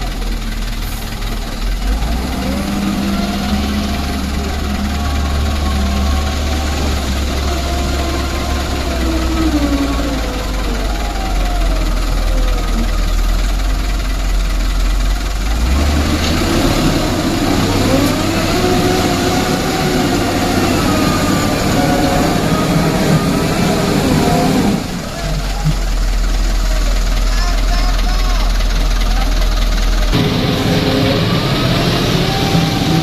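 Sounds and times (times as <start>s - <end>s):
truck diesel engine running: 0.0s - 33.0s.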